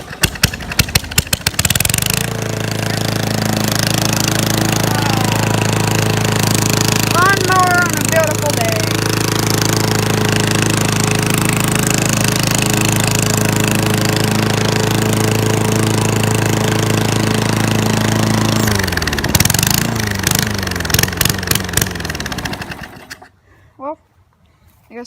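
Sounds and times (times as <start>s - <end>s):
small gasoline engine running: 0.0s - 23.4s.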